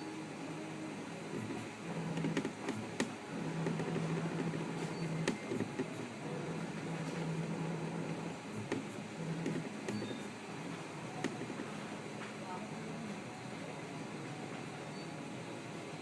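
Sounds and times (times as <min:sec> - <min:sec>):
printer motor humming: 0:00.0 - 0:16.0.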